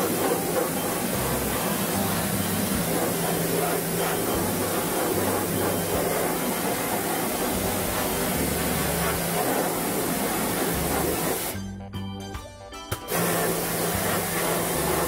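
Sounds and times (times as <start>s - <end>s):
pressure washer spraying metal: 0.0s - 11.6s, 13.0s - 15.0s.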